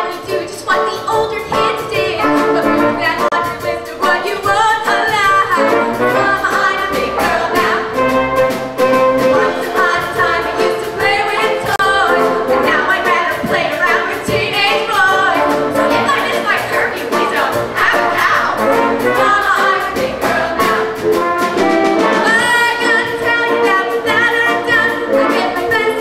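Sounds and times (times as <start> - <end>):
concert band playing: 0.0 - 26.0
choir singing: 1.5 - 26.0.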